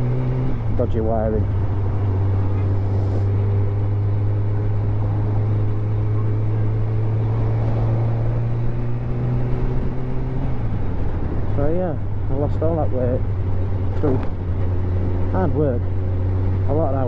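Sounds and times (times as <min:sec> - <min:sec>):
motorcycle engine droning: 0:00.0 - 0:17.0
wind and road noise: 0:00.0 - 0:17.0.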